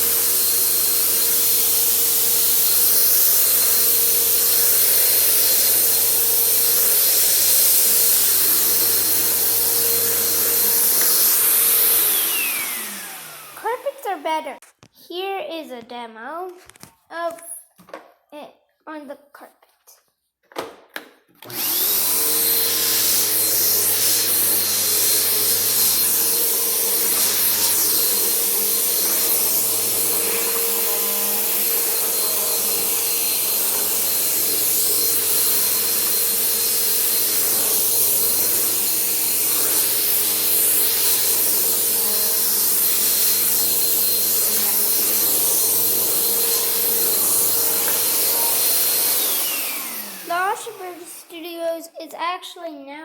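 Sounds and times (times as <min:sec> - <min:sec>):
vacuum cleaner motor whine: 0:00.0 - 0:13.9, 0:21.4 - 0:51.0.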